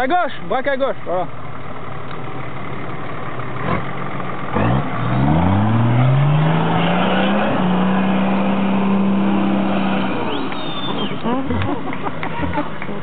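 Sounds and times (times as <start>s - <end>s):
off-road vehicle engine revving: 2.1s - 13.0s.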